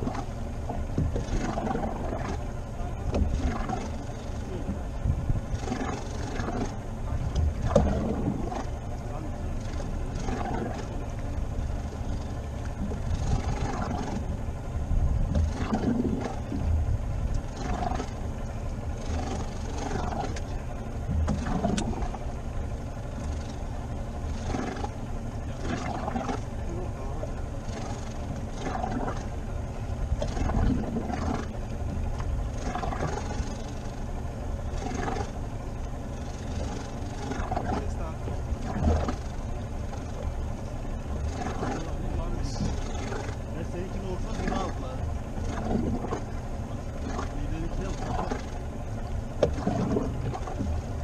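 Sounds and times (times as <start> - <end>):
water surging around boat: 0.0 - 51.0
wind around boat: 0.0 - 51.0.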